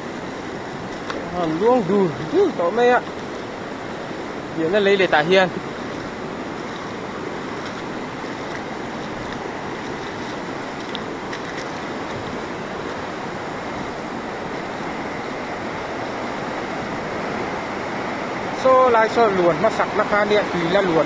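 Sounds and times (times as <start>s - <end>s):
river rushing: 0.0s - 21.0s.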